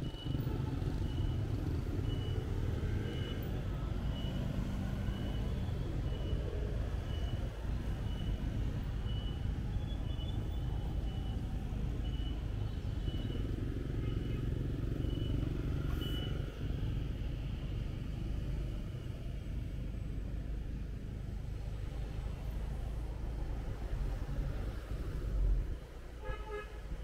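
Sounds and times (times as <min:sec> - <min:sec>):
traffic engines and road noise: 0:00.0 - 0:27.0.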